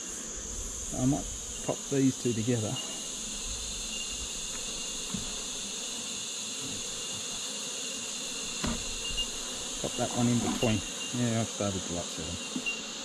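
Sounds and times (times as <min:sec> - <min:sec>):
high-pitched insect hiss: 0:00.0 - 0:13.0
honeybees buzzing: 0:00.0 - 0:13.0.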